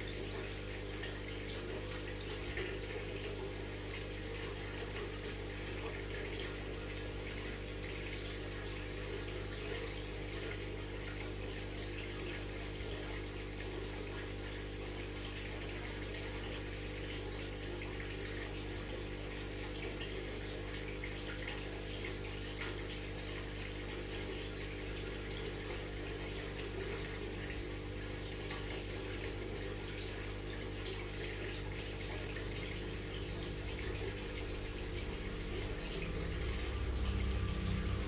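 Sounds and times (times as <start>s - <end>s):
aquarium water bubbling: 0.0s - 38.0s
filter pump humming: 0.0s - 38.0s.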